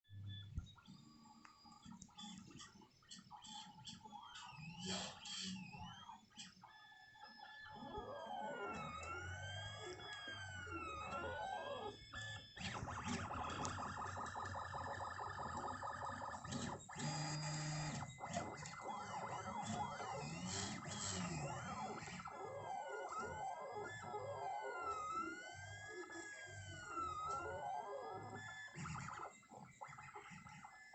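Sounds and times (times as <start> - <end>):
stepper motors whining: 3.2 - 29.4.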